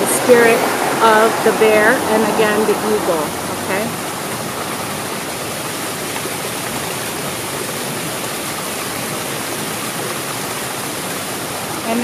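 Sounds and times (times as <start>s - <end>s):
waterfall over rocks: 0.0s - 12.0s.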